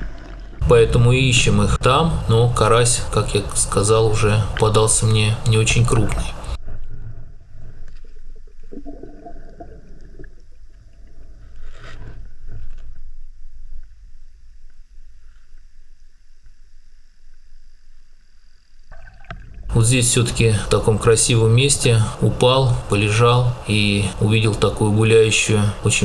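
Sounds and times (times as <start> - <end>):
underwater rumble: 0.0 - 25.1.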